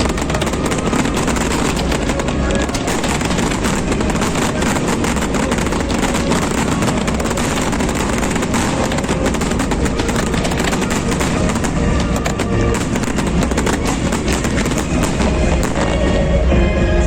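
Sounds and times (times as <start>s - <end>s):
fireworks crackling and bursting: 0.0s - 16.5s.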